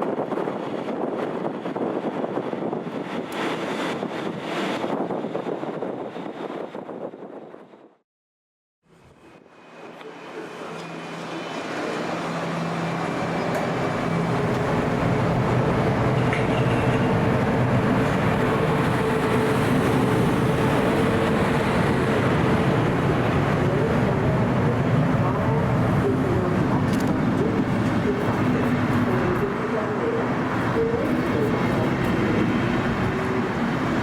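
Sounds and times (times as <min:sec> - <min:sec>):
electric train running hum: 0:00.0 - 0:07.8, 0:09.0 - 0:34.0.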